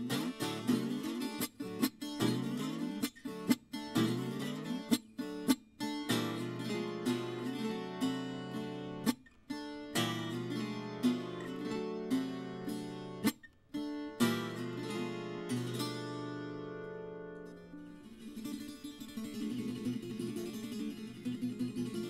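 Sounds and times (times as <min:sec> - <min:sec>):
folk guitar playing: 0:00.0 - 0:22.0.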